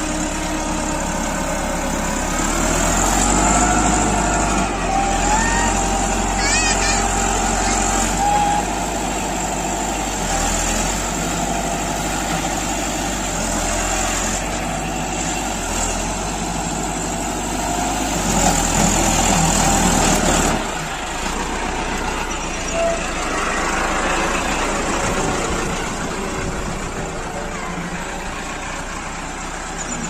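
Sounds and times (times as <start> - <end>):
heavy machinery engine running: 0.0 - 30.0.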